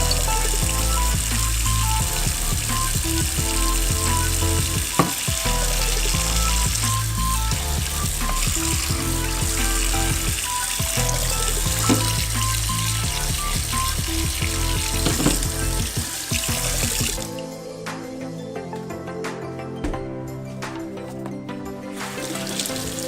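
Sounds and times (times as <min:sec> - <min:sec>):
background music with bass line: 0:00.0 - 0:23.0.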